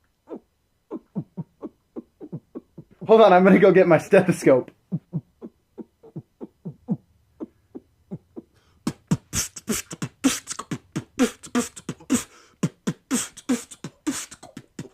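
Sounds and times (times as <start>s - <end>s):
beatboxing: 0.3s - 3.1s, 4.9s - 14.9s.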